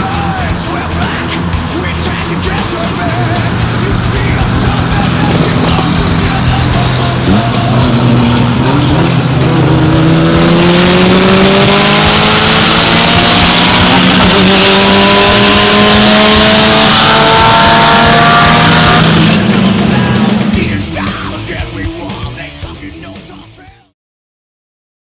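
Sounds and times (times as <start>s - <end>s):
car engine accelerating hard: 0.0s - 22.4s.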